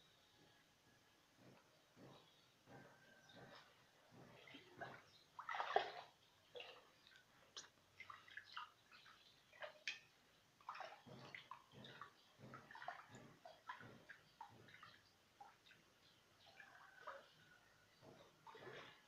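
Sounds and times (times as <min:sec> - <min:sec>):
faint water sloshing: 0:00.0 - 0:19.0
small water splashes: 0:03.2 - 0:19.0.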